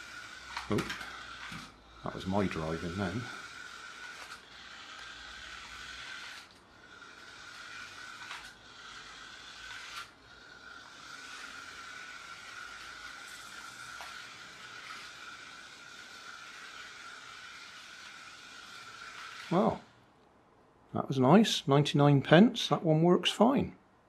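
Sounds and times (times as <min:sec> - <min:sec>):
gears and tyres hissing: 0:00.0 - 0:20.0
toy car electric motor whining: 0:00.0 - 0:20.0.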